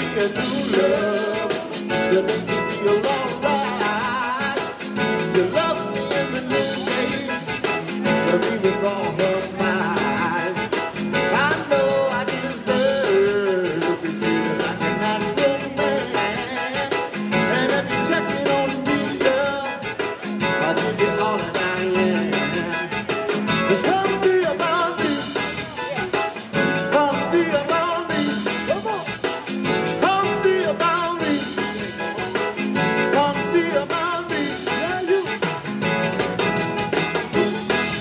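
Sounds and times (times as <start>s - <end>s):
person singing: 0.0s - 35.7s
accordion: 0.0s - 38.0s
live band playing: 0.0s - 38.0s.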